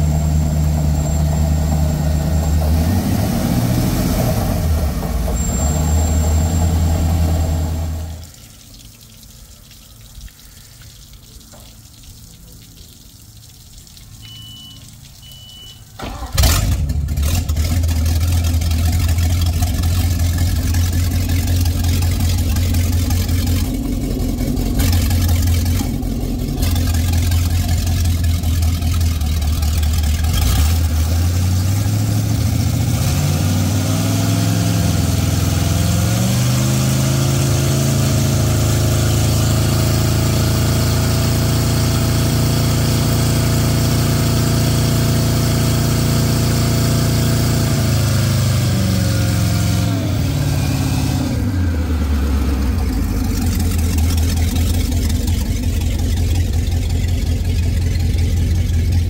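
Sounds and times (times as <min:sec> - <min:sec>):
boat engines idling and revving: 0:00.0 - 0:08.9, 0:09.6 - 0:59.0.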